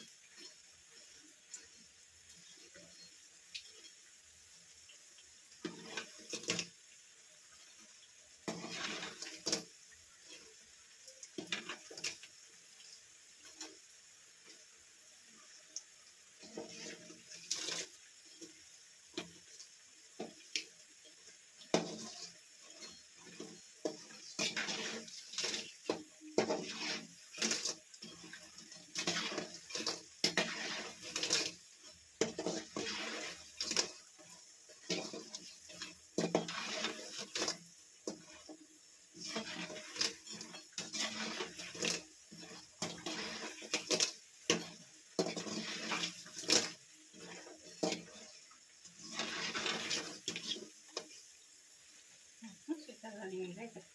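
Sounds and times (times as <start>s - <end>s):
food deep-frying in hot oil: 0.0s - 53.9s
metal utensil scraping a pan: 0.2s - 4.1s, 5.6s - 6.8s, 7.5s - 10.6s, 11.4s - 14.6s, 16.3s - 51.2s.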